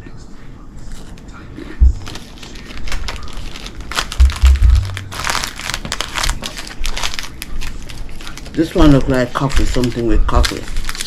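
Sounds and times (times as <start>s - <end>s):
plastic wrapper crinkling: 1.8s - 11.0s.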